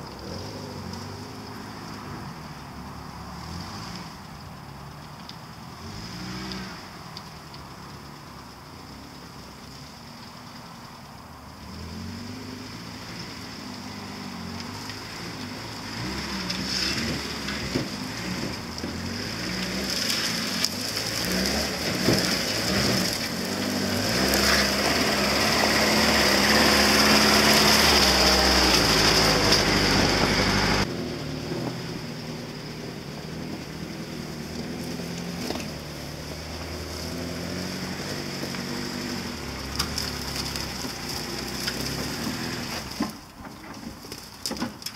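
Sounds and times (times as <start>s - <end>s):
car engine revving off-road: 0.0s - 44.9s.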